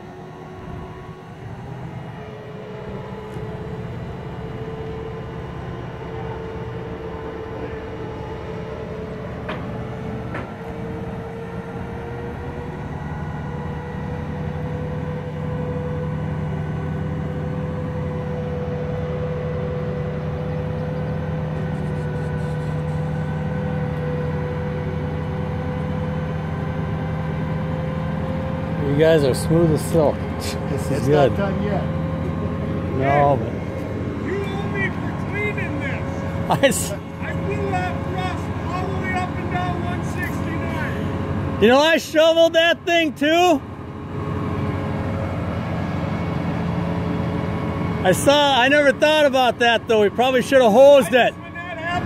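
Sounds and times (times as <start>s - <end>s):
heavy diesel truck engine: 0.0s - 52.0s.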